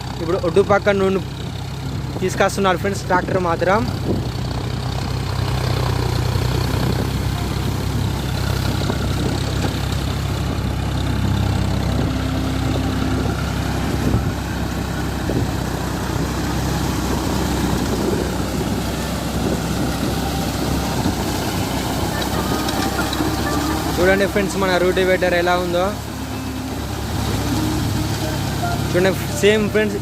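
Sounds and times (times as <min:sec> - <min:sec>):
rotavator churning wet field: 0:00.0 - 0:30.0
tractor diesel engine under load: 0:00.0 - 0:30.0.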